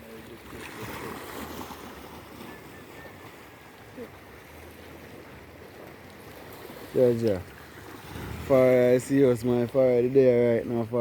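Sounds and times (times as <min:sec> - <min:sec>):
seawater washing on shore: 0:00.0 - 0:11.0.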